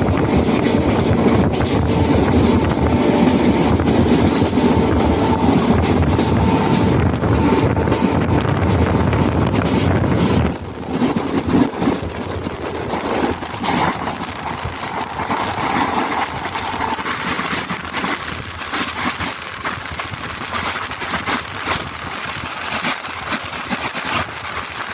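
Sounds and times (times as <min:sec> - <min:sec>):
train rumbling and rattling: 0:00.0 - 0:24.9.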